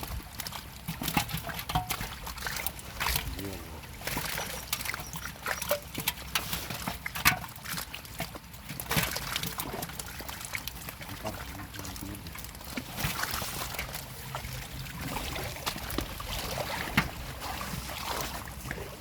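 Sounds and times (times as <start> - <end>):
pond water splashing and dripping: 0.0 - 19.0.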